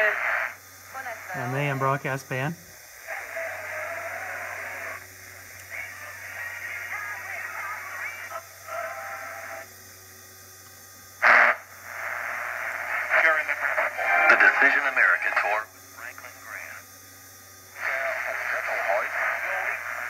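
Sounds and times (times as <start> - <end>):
loud radio burst: 0.0 - 9.7, 11.2 - 16.8, 17.7 - 20.0
radio voices and programme audio: 0.0 - 9.7, 11.2 - 17.0, 17.7 - 20.0
low steady hum: 0.0 - 20.0
radio static hiss: 0.0 - 20.0.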